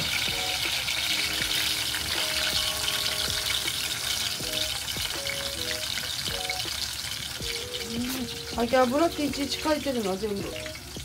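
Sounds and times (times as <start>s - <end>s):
peppers sizzling in oil: 0.0s - 11.0s.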